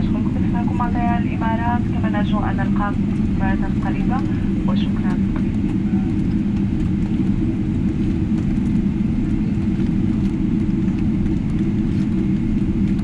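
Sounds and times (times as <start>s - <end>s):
airplane cabin low rumble: 0.0s - 13.0s.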